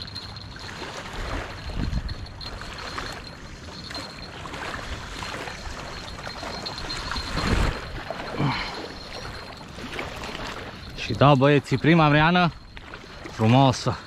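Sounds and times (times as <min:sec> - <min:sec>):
wind blowing across microphone: 0:00.0 - 0:13.8
small waves lapping at bank: 0:00.0 - 0:14.0.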